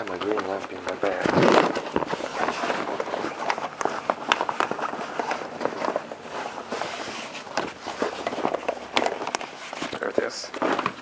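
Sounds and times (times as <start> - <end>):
bag rustling: 0.0 - 11.0
objects clicking and knocking: 0.0 - 11.0.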